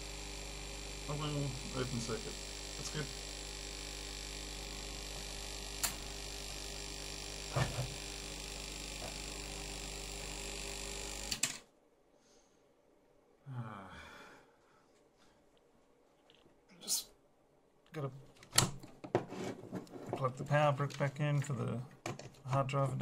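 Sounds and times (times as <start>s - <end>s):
electrical hum from bench equipment: 0.0s - 23.0s.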